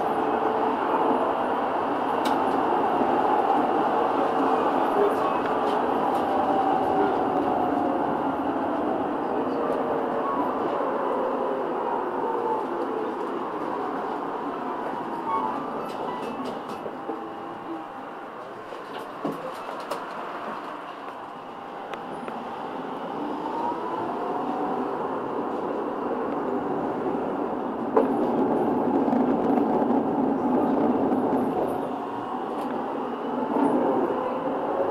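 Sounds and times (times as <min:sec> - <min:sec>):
tram running on street track: 0:00.0 - 0:34.9.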